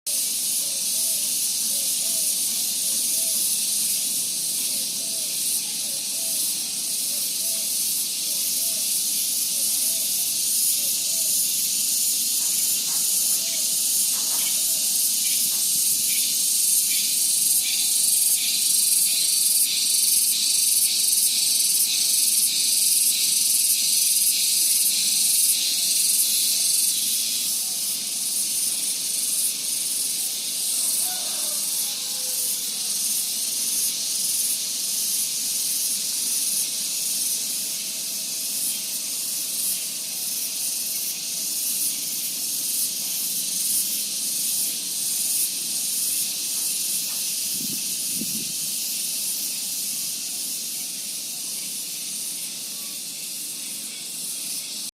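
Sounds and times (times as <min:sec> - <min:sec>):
high-pitched insect chorus: 0:00.1 - 0:54.9.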